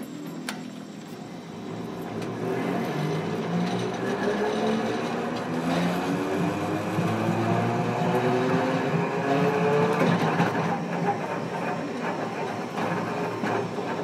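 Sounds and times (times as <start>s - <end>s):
tram motor whine rising: 0.0s - 14.0s
tram running noise: 0.0s - 14.0s.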